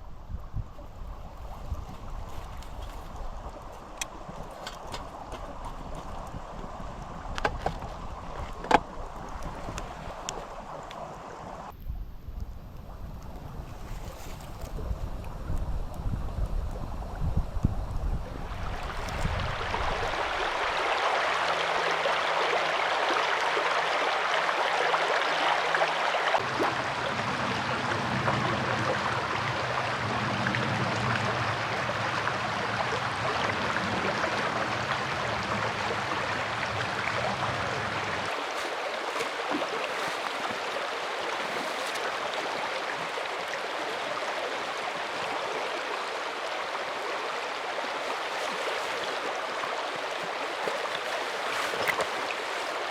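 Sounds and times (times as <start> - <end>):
mountain stream rushing: 1.0 - 11.7, 18.4 - 52.9.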